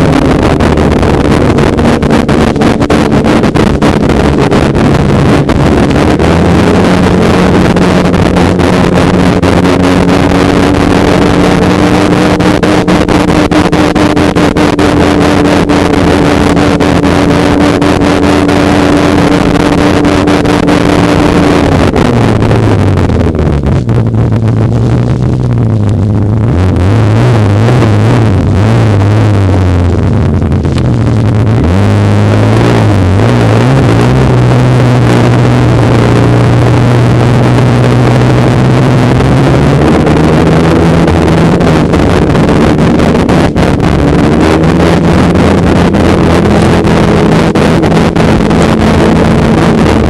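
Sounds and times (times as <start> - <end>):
snowmobile engine running: 0.0 - 50.0
wind buffeting microphone: 0.0 - 50.0.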